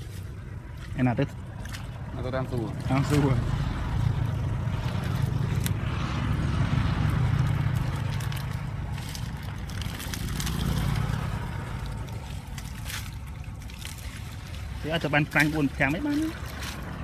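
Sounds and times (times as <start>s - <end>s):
net and weeds rustling on grass: 0.0s - 2.0s, 4.0s - 17.0s
steady low rumble: 0.0s - 17.0s.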